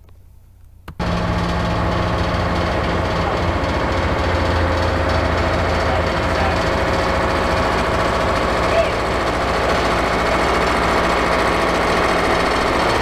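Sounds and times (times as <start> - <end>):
excavator engine running: 0.4 - 13.0
rapid even clatter: 1.0 - 13.0.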